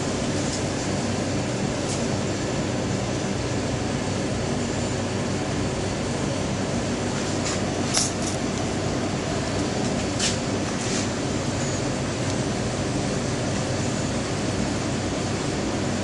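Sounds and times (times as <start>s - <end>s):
machine hum and hiss: 0.0s - 16.0s.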